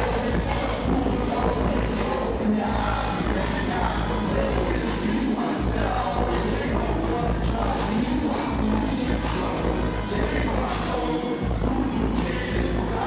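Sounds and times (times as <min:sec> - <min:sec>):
hip-hop with heavy bass beat: 0:00.0 - 0:13.0
person rapping: 0:00.0 - 0:13.0.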